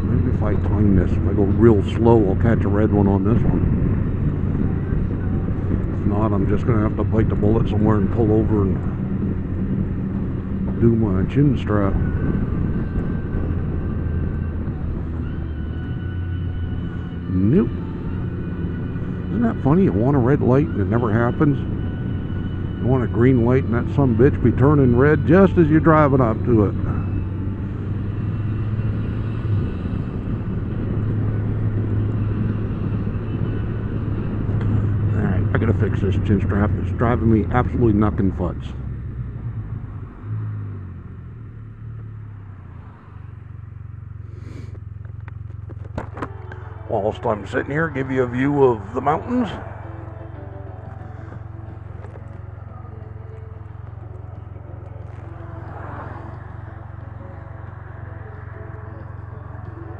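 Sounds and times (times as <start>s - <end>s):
motorcycle engine humming: 0.0s - 59.9s
road and wind noise: 0.0s - 59.9s.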